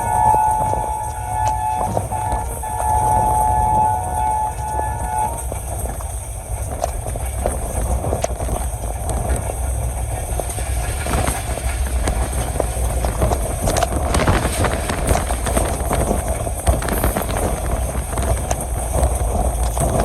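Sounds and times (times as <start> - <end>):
train rumbling on track: 0.0 - 20.0
wheels and couplings clicking: 0.0 - 20.0
wind buffeting microphone: 0.0 - 20.0.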